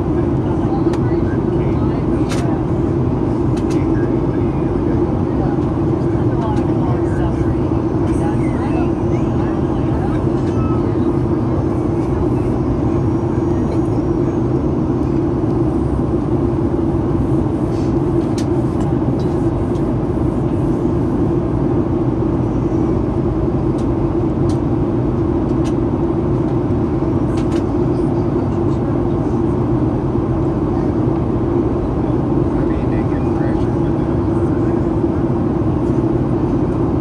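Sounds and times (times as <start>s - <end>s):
jet engine drone in cabin: 0.0s - 37.0s.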